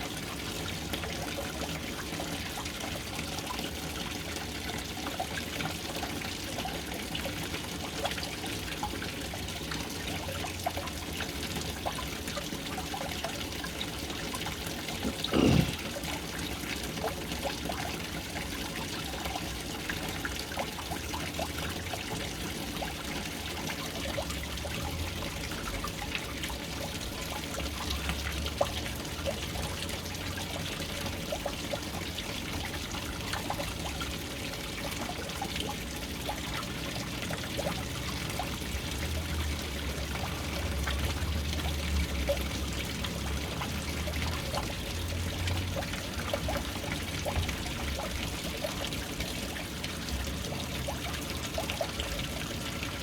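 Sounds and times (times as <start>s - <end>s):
water pouring into a tank: 0.0s - 53.0s.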